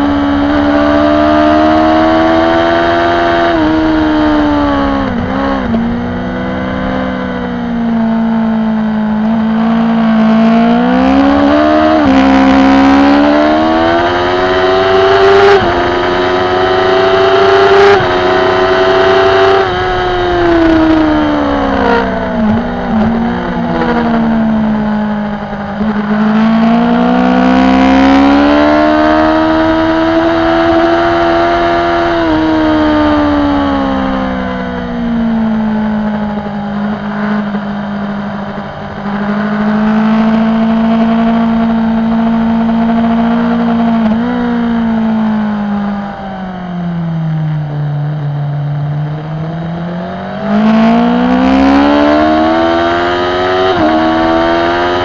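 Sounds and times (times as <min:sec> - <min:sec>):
gear change: 0:00.0 - 0:55.0
motorcycle engine racing: 0:00.0 - 0:55.0.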